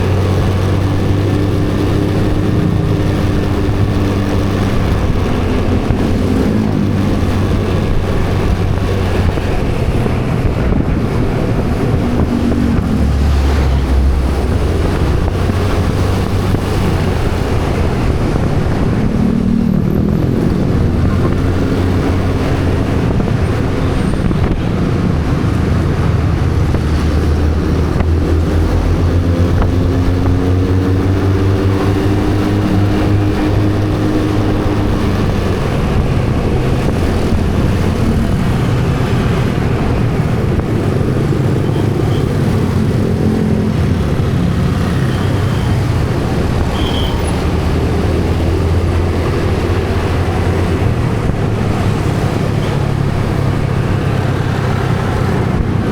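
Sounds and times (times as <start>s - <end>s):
road and wind noise: 0.0s - 55.9s
vehicle engine running: 0.0s - 55.9s.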